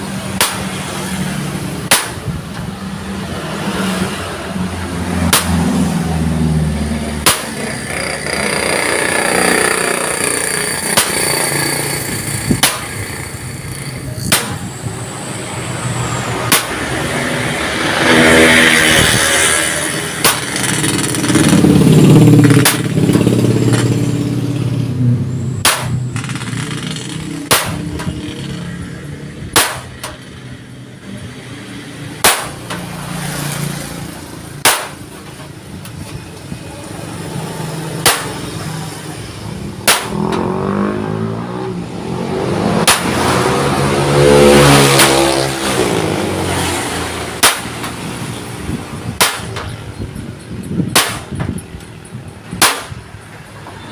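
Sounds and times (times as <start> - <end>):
vehicle engine passing: 0.0 - 34.6, 36.6 - 49.2.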